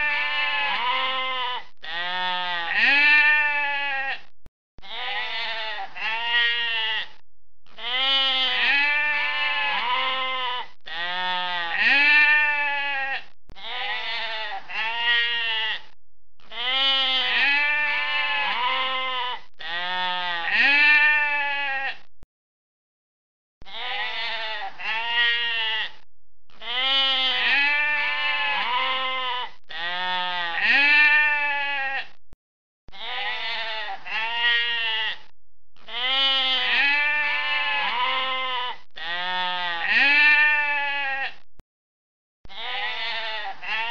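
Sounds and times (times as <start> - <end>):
sheep bleating: 0.0 - 7.2, 7.8 - 22.1, 23.6 - 26.0, 26.6 - 32.2, 32.9 - 41.4, 42.5 - 43.9.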